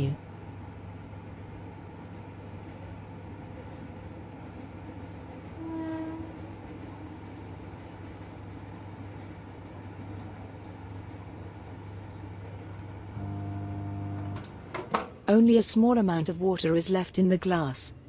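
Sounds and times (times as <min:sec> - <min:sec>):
microwave oven humming: 0:00.0 - 0:16.3.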